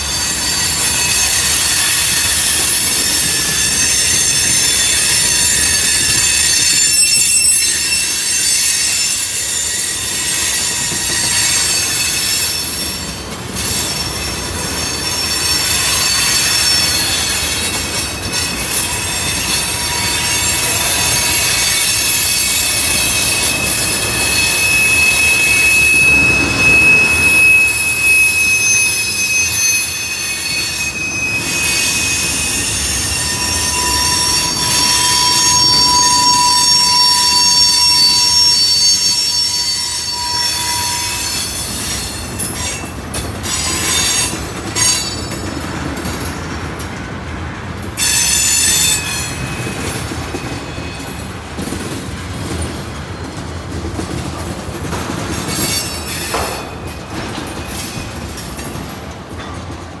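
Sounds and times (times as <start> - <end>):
train wheels squealing: 0.0 - 47.2, 47.9 - 60.0.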